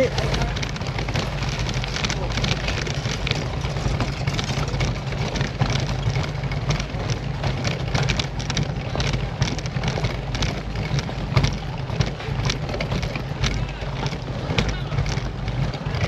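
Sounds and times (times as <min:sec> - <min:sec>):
bike rattling over cobblestones: 0:00.0 - 0:16.0
low wind rumble on microphone: 0:00.0 - 0:16.0.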